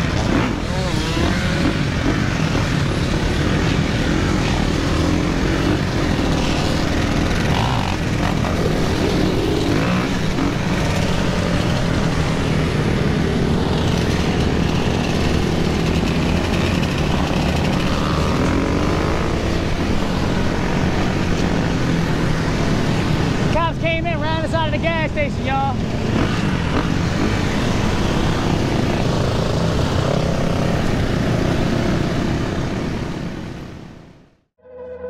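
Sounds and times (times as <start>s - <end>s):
dirt bike engine running steadily: 0.0s - 32.1s
dirt bikes and quads revving: 0.0s - 34.2s.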